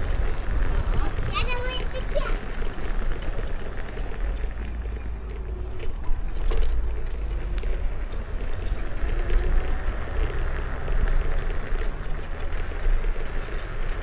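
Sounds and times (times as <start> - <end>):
small clicks and rattles: 0.0 - 14.0
steady road noise: 0.0 - 14.0
wind rumbling on microphone: 0.0 - 14.0.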